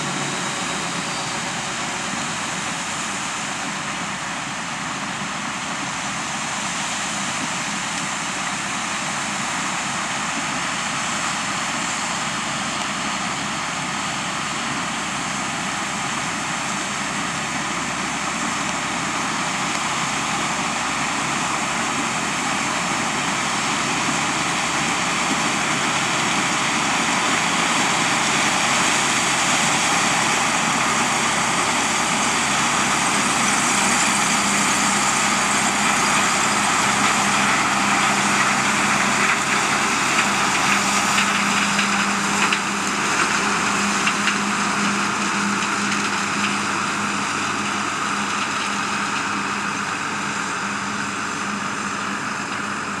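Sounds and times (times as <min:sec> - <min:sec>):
combine harvester and tractor running: 0:00.0 - 0:53.0.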